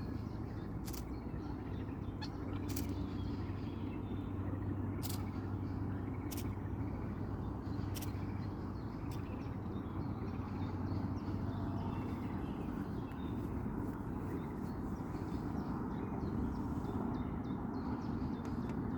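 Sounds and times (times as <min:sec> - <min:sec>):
songbirds chirping: 0:00.0 - 0:18.9
steady low rumble: 0:00.0 - 0:18.9.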